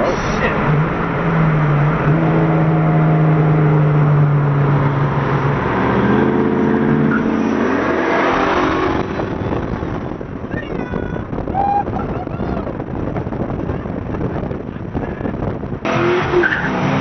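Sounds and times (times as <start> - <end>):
car engine pulling hard: 0.0 - 17.0.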